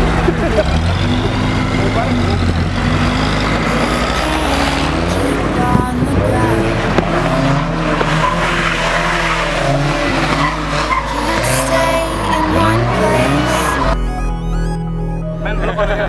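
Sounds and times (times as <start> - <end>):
car tyres squealing: 0.0 - 15.8.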